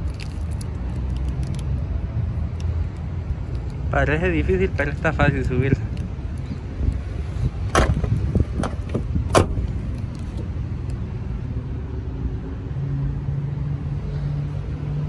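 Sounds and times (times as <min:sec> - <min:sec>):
steady low rumble: 0:00.0 - 0:14.8.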